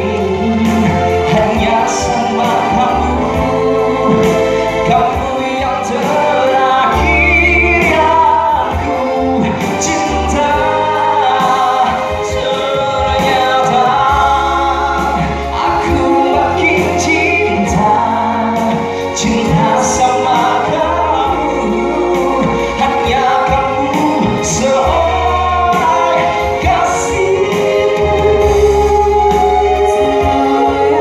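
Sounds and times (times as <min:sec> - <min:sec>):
electric keyboard: 0:00.0 - 0:31.0
man and woman singing: 0:00.0 - 0:31.0
steady bass line: 0:00.0 - 0:31.0.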